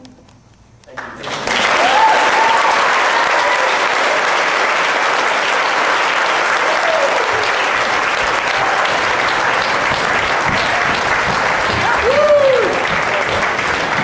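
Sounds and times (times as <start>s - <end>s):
audience applauding: 0.9s - 14.0s.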